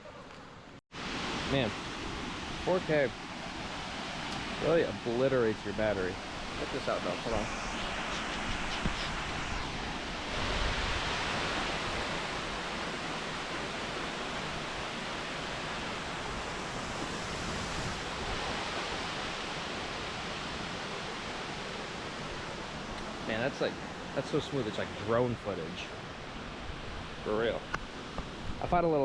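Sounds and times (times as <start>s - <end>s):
waterfall rushing: 1.0s - 26.1s.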